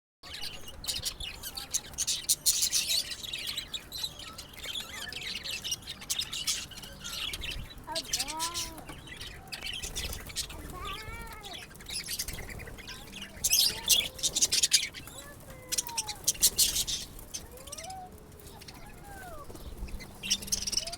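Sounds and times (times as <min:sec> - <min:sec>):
birds chirping densely: 0:00.2 - 0:20.9
drawn-out rising and falling bird calls: 0:00.3 - 0:20.9.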